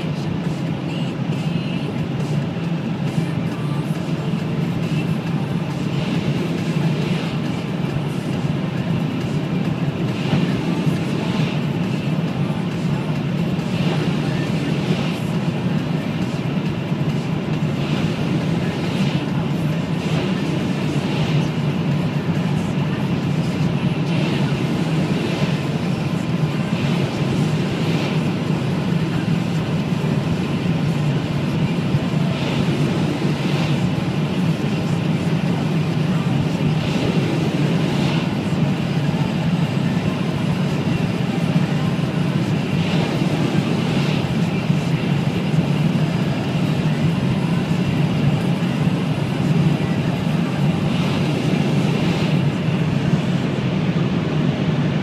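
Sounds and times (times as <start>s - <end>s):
car engine running at high revs: 0.0s - 55.0s.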